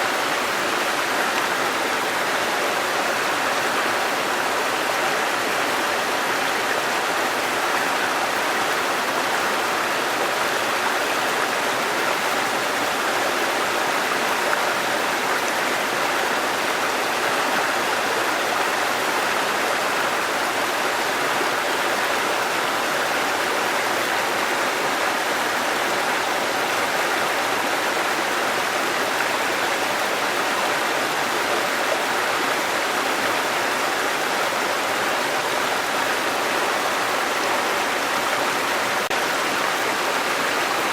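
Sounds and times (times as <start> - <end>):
waterfall cascading: 0.0 - 40.9.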